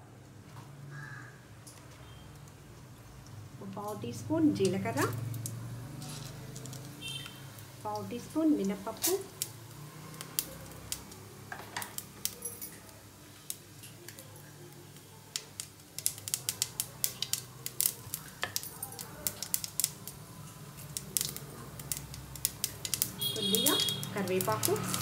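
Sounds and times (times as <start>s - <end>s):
mustard seeds popping in hot oil: 1.7s - 25.0s.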